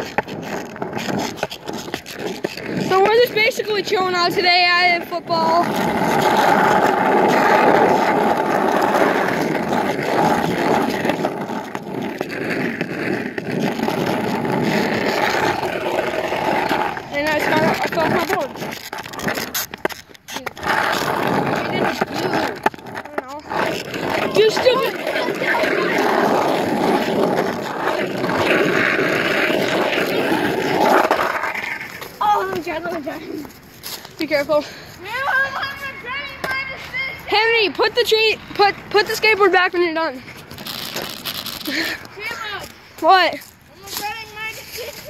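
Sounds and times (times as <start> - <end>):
skateboard wheels rolling on asphalt: 0.0 - 45.0.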